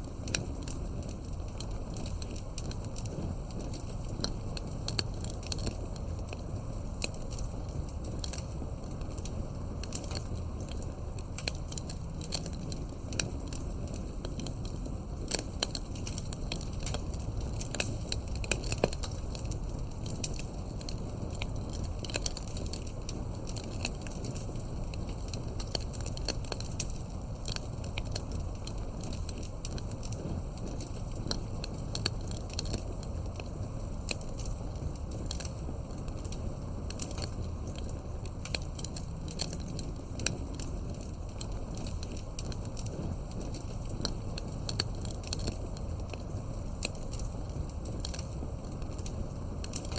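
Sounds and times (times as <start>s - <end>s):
burning wood popping: 0.0s - 49.9s
campfire crackling: 0.0s - 49.9s
low fire rumble: 0.0s - 49.9s.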